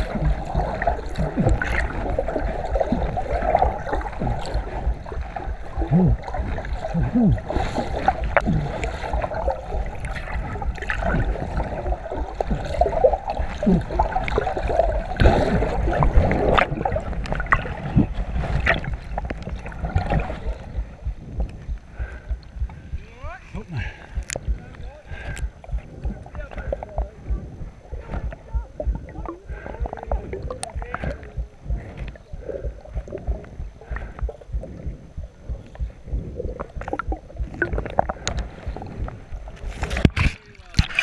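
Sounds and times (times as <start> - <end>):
water sloshing and gurgling: 0.0 - 41.0.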